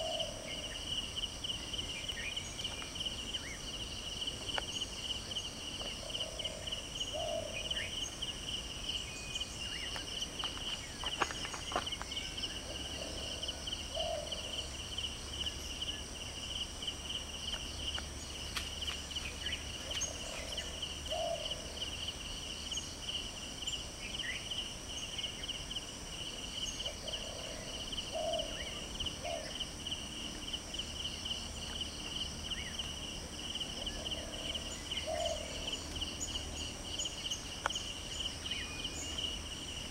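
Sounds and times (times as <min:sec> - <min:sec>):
insect chorus pulsing: 0:00.0 - 0:39.9.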